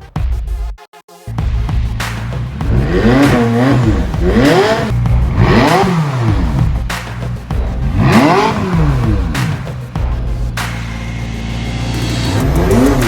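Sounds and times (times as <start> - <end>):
background music: 0.0 - 13.0
car engine revving: 1.3 - 13.0.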